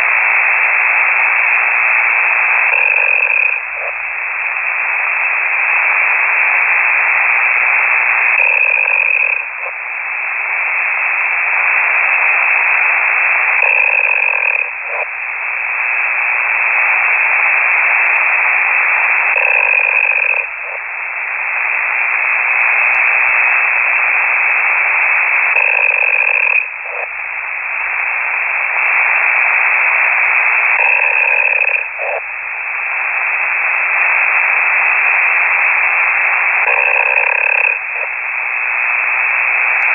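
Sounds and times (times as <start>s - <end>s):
snoring over radio signal: 0.0s - 39.9s.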